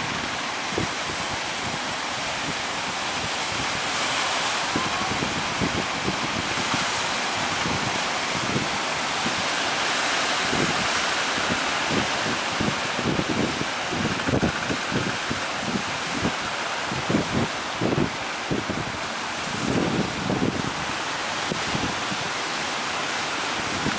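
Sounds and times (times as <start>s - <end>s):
ocean surf breaking: 0.0s - 23.9s
wind buffeting microphone: 0.0s - 23.9s.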